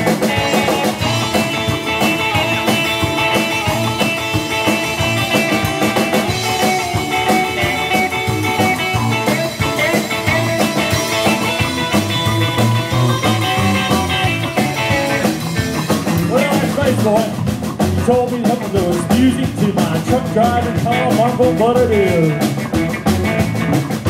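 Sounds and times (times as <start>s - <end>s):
drum kit beating steady rhythm: 0.0s - 24.0s
guitar: 0.0s - 24.0s
upright double bass: 0.0s - 24.0s.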